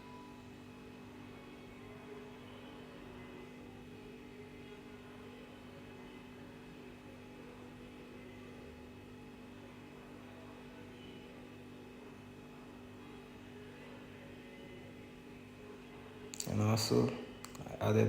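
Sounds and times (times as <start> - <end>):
faint hum of held tones: 0.0 - 18.0.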